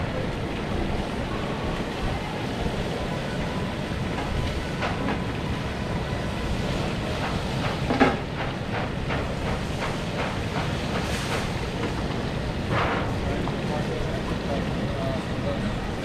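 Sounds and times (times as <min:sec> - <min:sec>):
gas burners roaring: 0:00.0 - 0:16.0.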